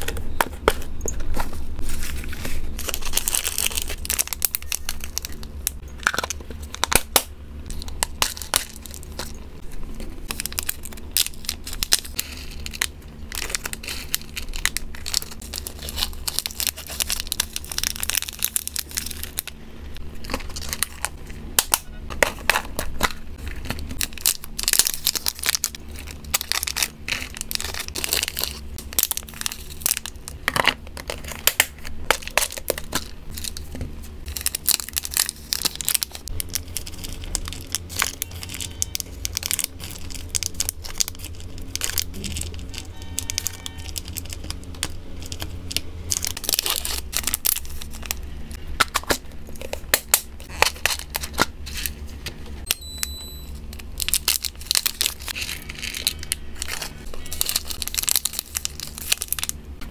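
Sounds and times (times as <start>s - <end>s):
plastic bags crinkling: 0.0s - 7.1s, 7.7s - 21.5s, 22.1s - 52.1s, 53.0s - 59.9s.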